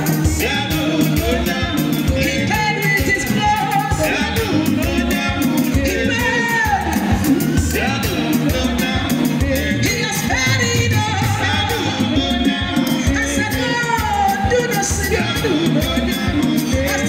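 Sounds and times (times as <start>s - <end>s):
amplified band music: 0.0s - 17.0s
women singing: 0.0s - 17.0s.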